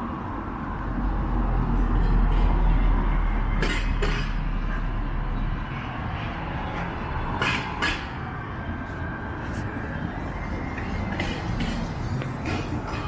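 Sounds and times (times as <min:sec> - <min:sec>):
heavy vehicle rumbling: 0:00.0 - 0:13.0.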